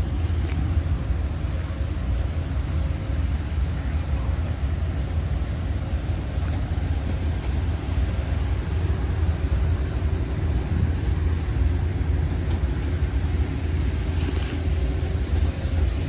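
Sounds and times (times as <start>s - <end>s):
passenger train rumbling past: 0.0s - 16.0s.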